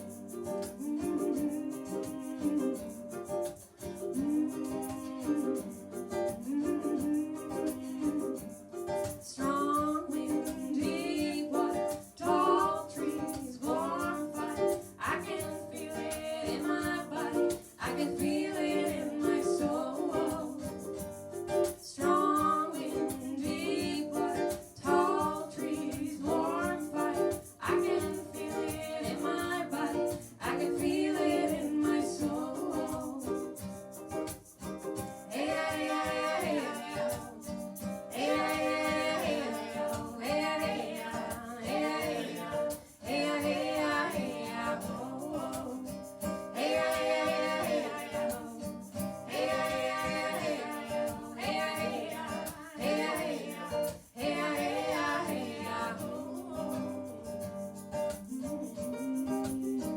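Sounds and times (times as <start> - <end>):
ukulele strumming reggae rhythm: 0.0 - 59.9
women singing: 0.0 - 59.9.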